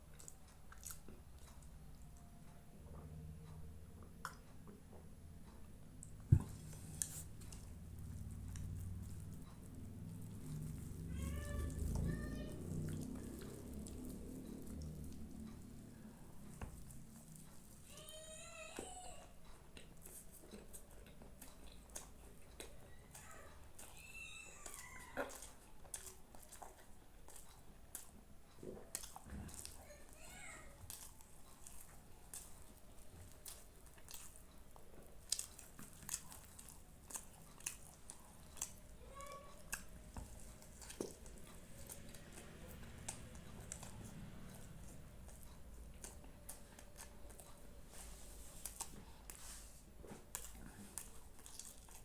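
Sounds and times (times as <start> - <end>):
person chewing food: 0.0 - 2.3, 2.9 - 18.5, 19.2 - 52.0.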